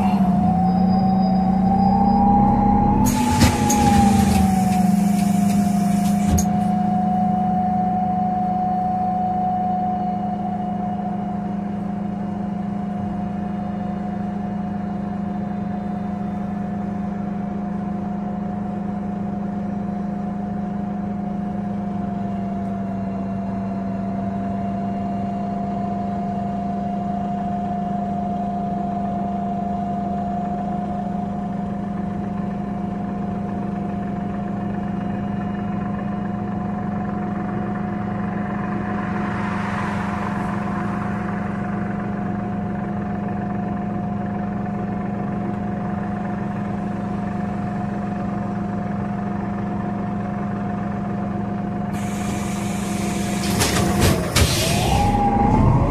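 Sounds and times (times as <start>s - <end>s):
bus engine idling: 0.0s - 55.9s.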